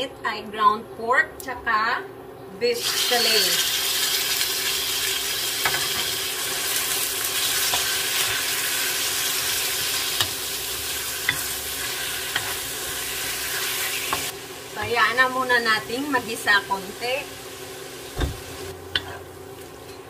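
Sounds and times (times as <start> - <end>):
meat sizzling in a wok: 2.8 - 19.9.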